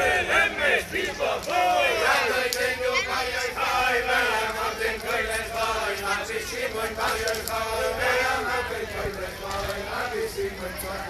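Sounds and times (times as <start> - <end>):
crowd of men chanting: 0.0 - 11.0.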